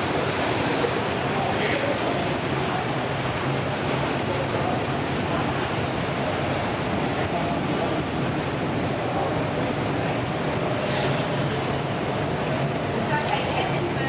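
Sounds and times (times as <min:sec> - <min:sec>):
water echoing in pool hall: 0:00.0 - 0:14.0.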